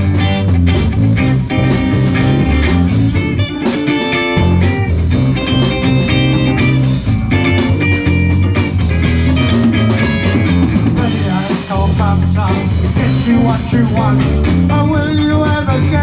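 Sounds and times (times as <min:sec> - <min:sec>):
bass guitar: 0:00.0 - 0:16.0
drum kit: 0:00.0 - 0:16.0
electric lead guitar: 0:00.0 - 0:16.0.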